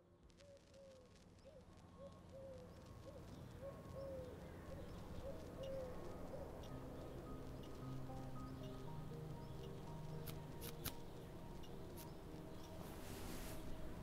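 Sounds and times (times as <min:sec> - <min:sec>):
faint birdsong: 0:00.4 - 0:14.0.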